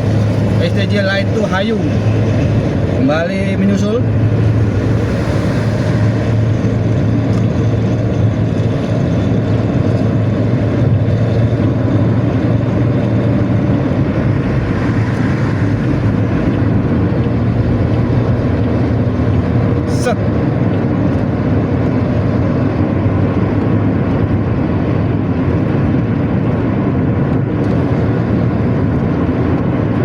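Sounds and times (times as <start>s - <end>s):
diesel bus engine drone: 0.0s - 30.0s.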